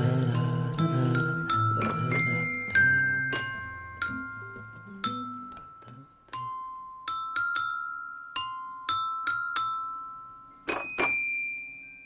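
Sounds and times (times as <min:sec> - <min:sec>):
bell-like melody: 0:00.0 - 0:12.0.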